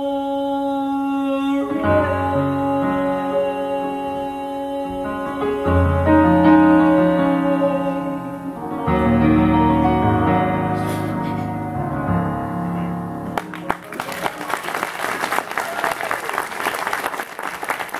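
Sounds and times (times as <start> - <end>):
gospel piano chords: 0.0 - 15.6.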